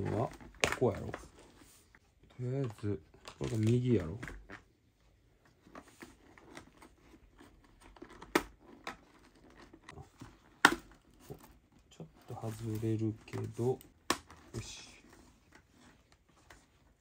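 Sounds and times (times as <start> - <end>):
fabric and foam rustling: 0.0 - 17.0.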